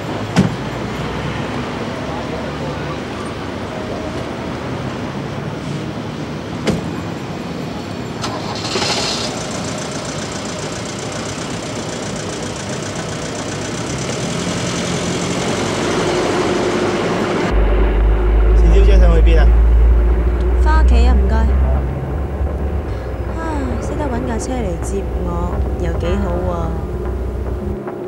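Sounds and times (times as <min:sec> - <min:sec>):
car engine starting and running: 0:00.0 - 0:28.0
street traffic: 0:00.0 - 0:28.0.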